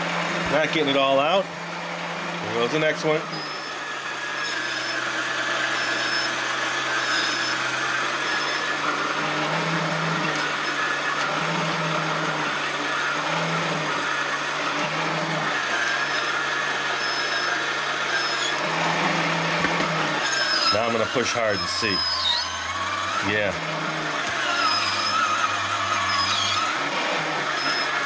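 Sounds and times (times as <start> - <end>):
small electric motor humming: 0.0 - 28.0.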